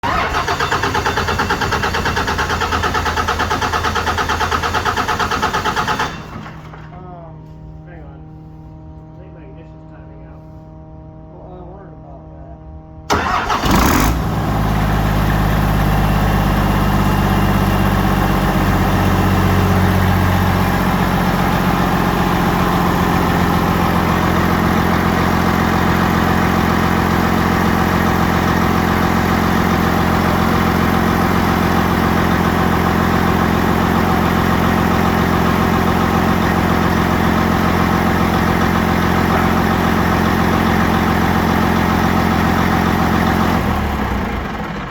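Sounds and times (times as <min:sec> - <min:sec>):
diesel engine idling: 0:00.0 - 0:08.7, 0:13.1 - 0:44.9.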